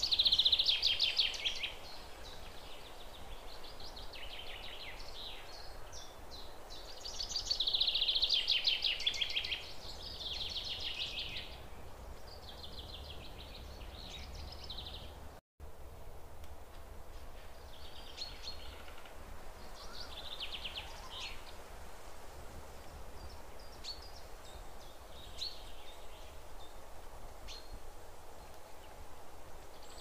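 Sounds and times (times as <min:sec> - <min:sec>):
songbirds singing trills: 0:00.0 - 0:15.3, 0:17.5 - 0:21.6, 0:22.8 - 0:29.0
faint steady hiss: 0:00.0 - 0:30.0.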